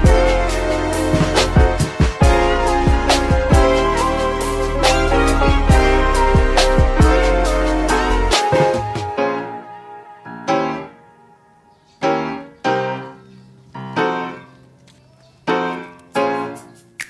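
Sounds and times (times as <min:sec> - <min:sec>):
piano chords ringing: 0:00.0 - 0:16.7.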